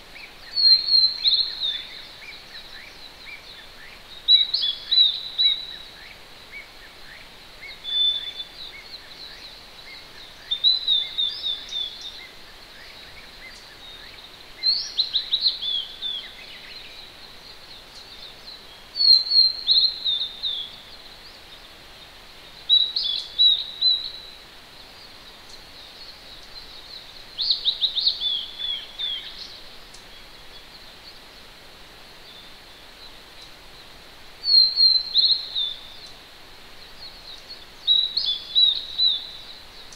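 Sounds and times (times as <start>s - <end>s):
distant stream hiss: 0.0s - 39.9s
faint bird chirps: 0.1s - 39.9s.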